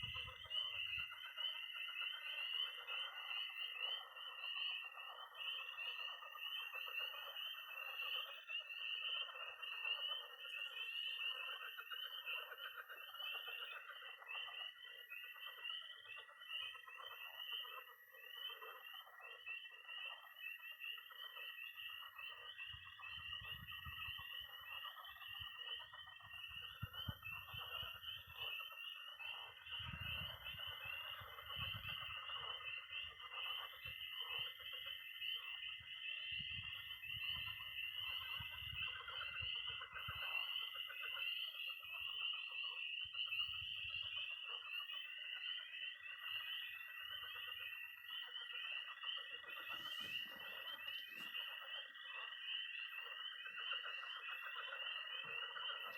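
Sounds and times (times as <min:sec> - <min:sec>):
high-pitched toad trill: 0:00.0 - 0:55.9
pond frogs croaking: 0:00.0 - 0:55.9
tree frogs peeping: 0:00.0 - 0:55.9.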